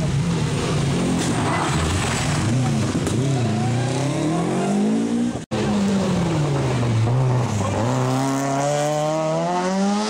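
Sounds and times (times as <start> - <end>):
rally car engine revving: 0.0 - 10.0
second rally car engine: 0.0 - 10.0.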